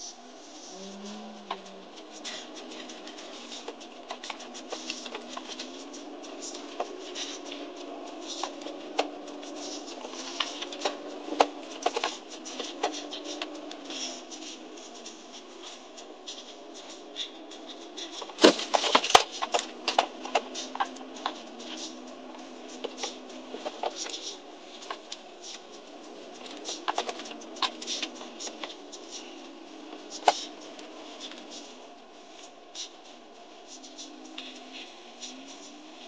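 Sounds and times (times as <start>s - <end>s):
vehicle running noise: 0.0s - 36.0s.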